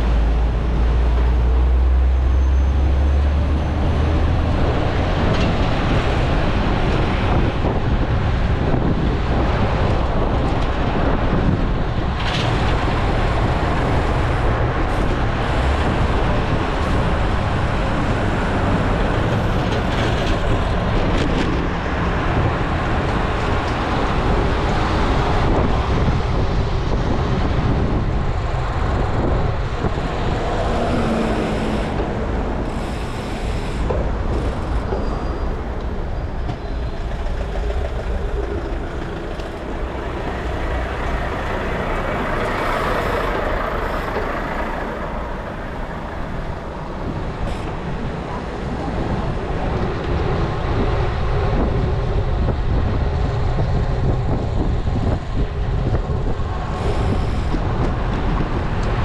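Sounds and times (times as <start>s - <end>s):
road traffic noise: 0.0s - 59.0s
wind rumble on microphone: 0.0s - 59.0s.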